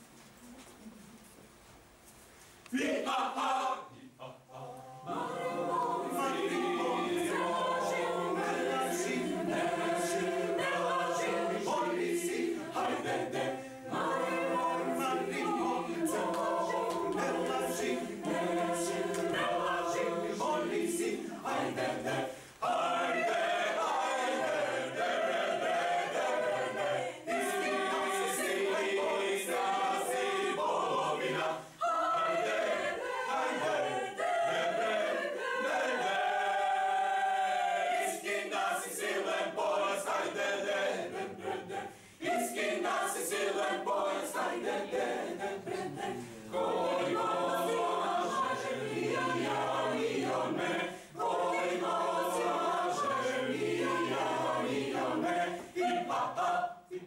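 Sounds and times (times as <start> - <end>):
mixed choir singing a cappella: 2.7 - 57.0.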